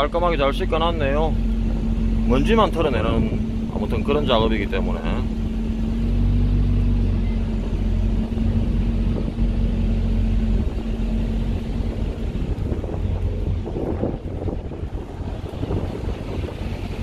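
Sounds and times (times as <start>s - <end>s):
large engine rumbling: 0.0s - 17.0s.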